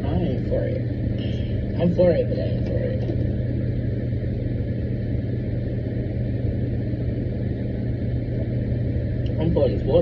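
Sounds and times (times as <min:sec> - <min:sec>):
constant low hum: 0:00.0 - 0:10.0
low rumble: 0:00.0 - 0:10.0.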